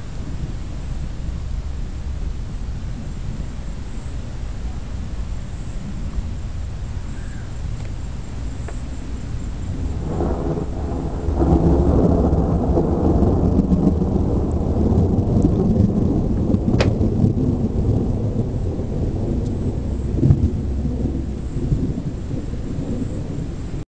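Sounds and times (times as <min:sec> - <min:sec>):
thunder rumbling: 0:00.0 - 0:23.8.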